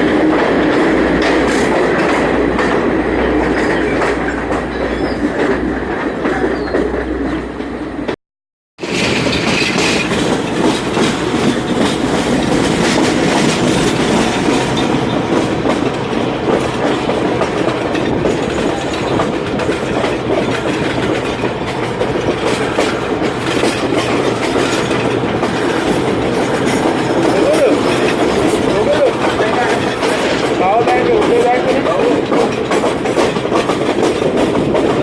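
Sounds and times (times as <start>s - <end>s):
train wheels clattering on rails: 0.0s - 8.2s, 8.8s - 35.0s.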